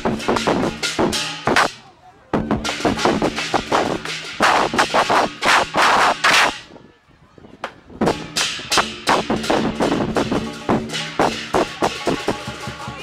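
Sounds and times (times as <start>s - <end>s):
drum beating: 0.0s - 6.6s, 7.6s - 13.0s
cymbals clashing: 0.0s - 6.7s, 8.1s - 13.0s.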